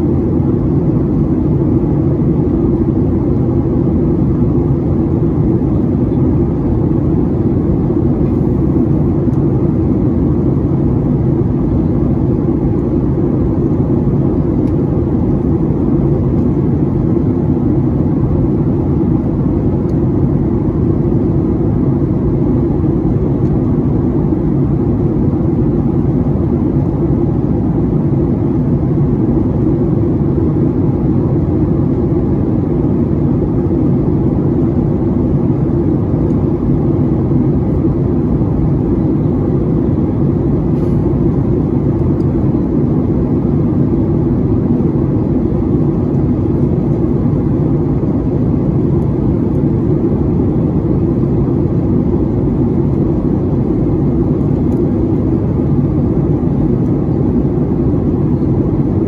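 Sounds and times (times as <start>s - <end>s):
air rushing along fuselage: 0.0s - 59.0s
airplane cabin engine drone: 0.0s - 59.0s.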